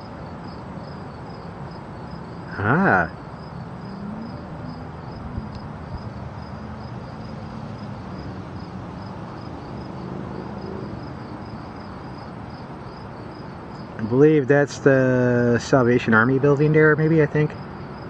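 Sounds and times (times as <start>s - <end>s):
crickets chirping: 0.0s - 18.0s
steady background hiss: 0.0s - 18.0s.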